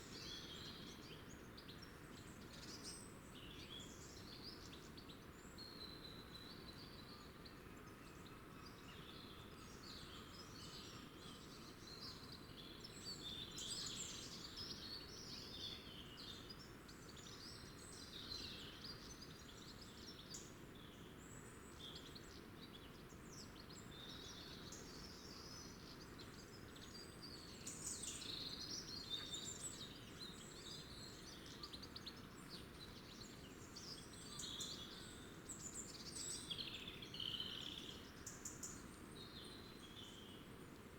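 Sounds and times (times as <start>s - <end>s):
low background hiss: 0.0s - 40.9s
songbirds chirping: 0.0s - 40.9s.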